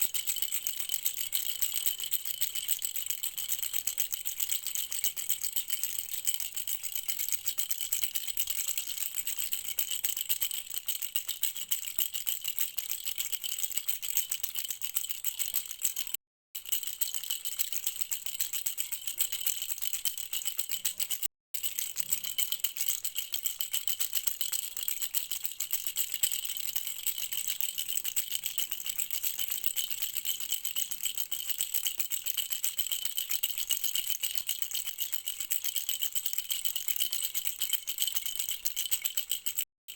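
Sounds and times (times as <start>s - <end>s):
baby rattle shaking: 0.0s - 39.7s.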